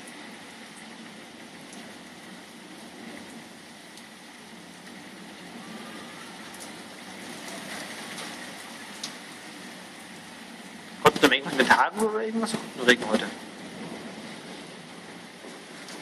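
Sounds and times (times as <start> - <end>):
faint raindrop ticks: 0.0 - 16.0
rain falling: 0.0 - 16.0.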